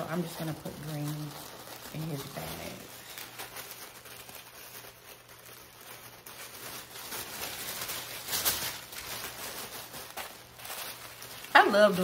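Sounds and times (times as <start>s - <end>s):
tissue paper rustling and crinkling: 0.0s - 12.0s.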